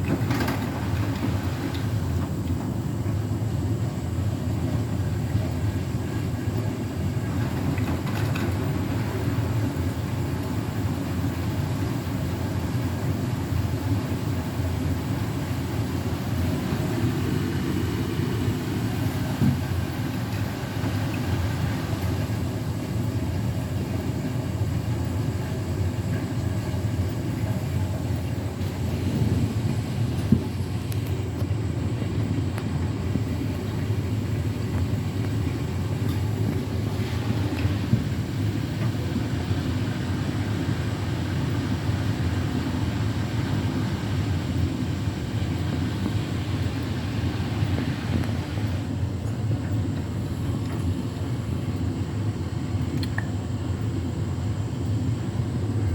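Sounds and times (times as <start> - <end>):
washing machine drum rumbling: 0.0 - 55.9.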